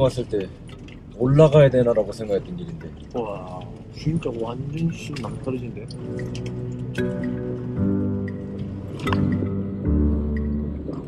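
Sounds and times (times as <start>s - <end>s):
sustained music chords: 0.0s - 11.0s.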